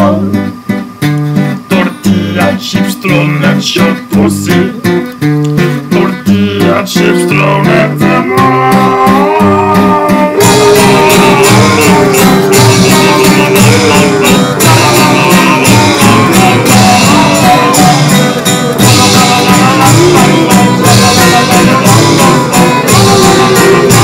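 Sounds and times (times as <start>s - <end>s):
music with plucked guitar and beat: 0.0s - 24.0s.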